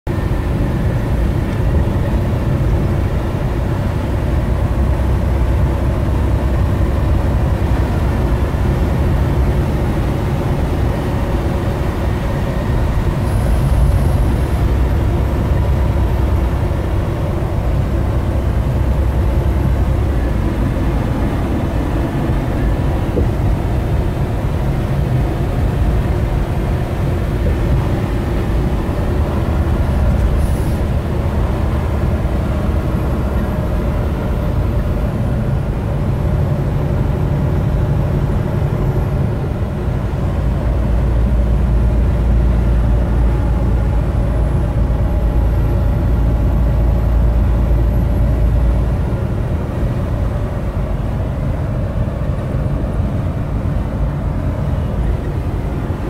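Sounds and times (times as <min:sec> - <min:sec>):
car engine cruising: 0:00.1 - 0:56.0
tyres rumbling on road: 0:00.1 - 0:56.0.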